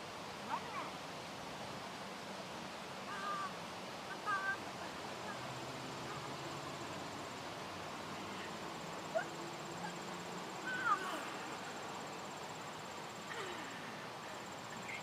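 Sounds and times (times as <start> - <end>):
crickets trilling: 2.8 - 15.0.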